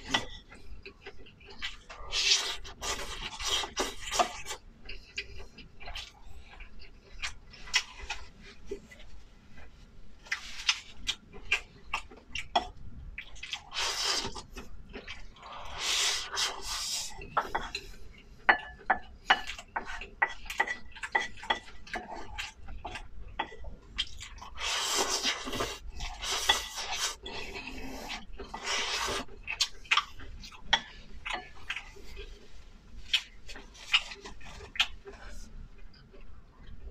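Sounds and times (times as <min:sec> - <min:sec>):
chewing and slurping: 0:00.0 - 0:36.8.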